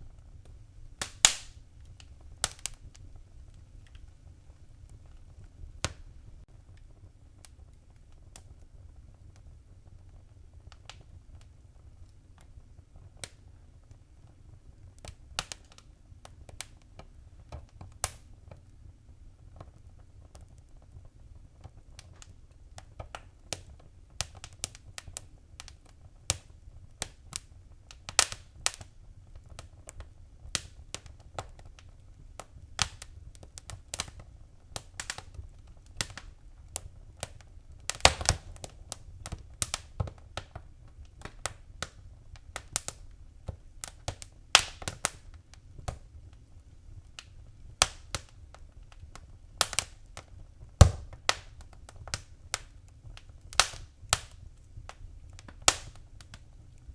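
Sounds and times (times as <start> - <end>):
fire crackling and popping: 0.0 - 56.9
low rumble of flames: 0.0 - 56.9.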